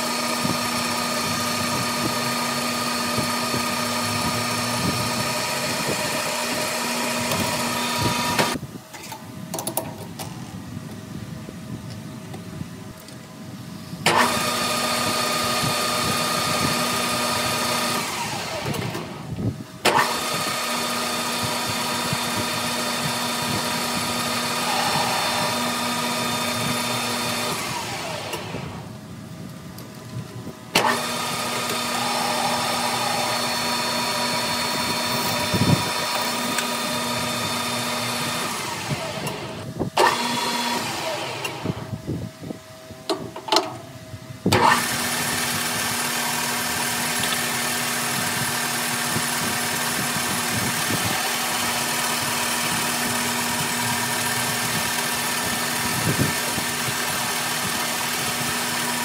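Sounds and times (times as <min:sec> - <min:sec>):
lathe motor running: 0:00.0 - 0:08.6, 0:14.1 - 0:19.2, 0:19.9 - 0:29.0, 0:30.8 - 0:41.9, 0:44.6 - 0:59.0.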